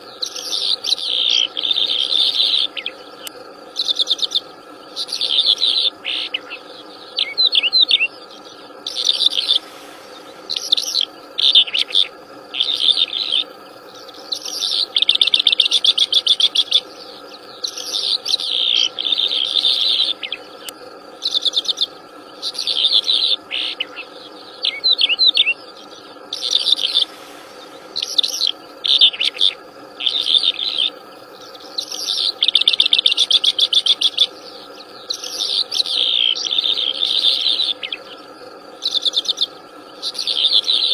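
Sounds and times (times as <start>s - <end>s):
songbird singing trills: 0.0s - 40.9s
steady drone: 0.0s - 40.9s.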